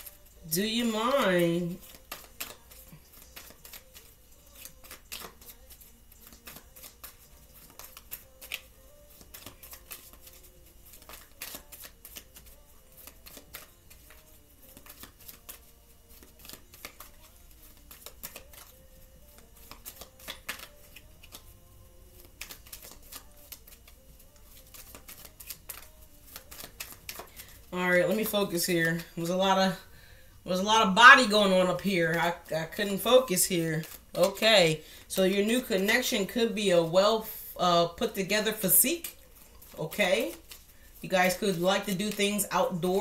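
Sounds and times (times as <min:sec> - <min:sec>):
cards being shuffled: 0:00.0 - 0:29.7, 0:31.0 - 0:37.1, 0:37.9 - 0:43.0.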